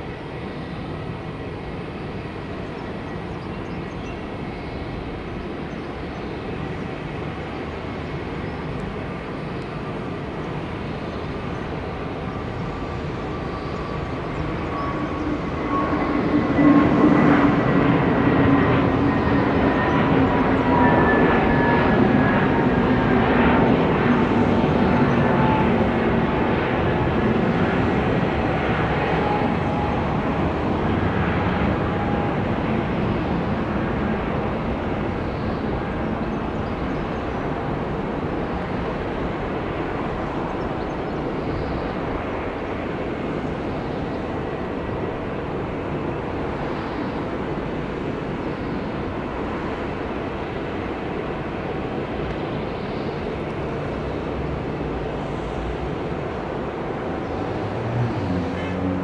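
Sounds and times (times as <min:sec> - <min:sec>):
jet airliner engine rumble: 0:00.0 - 0:59.0.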